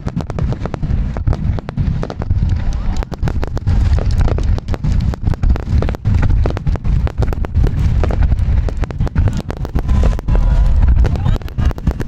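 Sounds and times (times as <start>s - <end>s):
fireworks bangs and crackles: 0.0s - 12.0s
low rumble: 0.0s - 12.0s.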